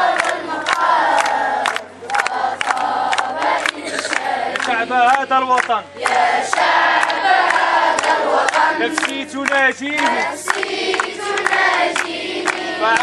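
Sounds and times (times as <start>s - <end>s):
children singing and chanting: 0.0s - 13.0s.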